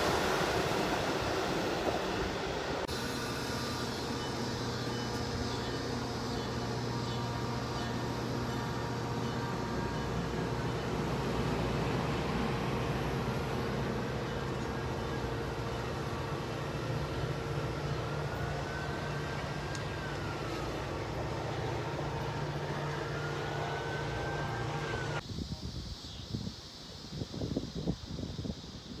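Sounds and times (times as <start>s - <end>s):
wheels rumbling on rail: 0.0s - 25.2s
train passing at speed: 0.0s - 25.7s.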